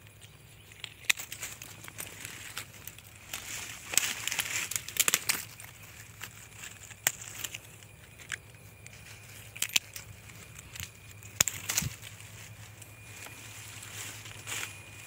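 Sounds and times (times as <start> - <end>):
pruning shears snipping twigs: 0.0 - 15.0.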